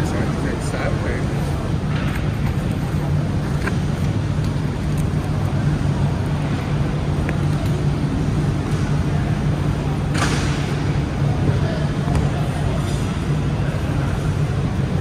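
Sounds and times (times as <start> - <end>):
continuous low hum: 0.0 - 15.0
low room drone: 0.0 - 15.0.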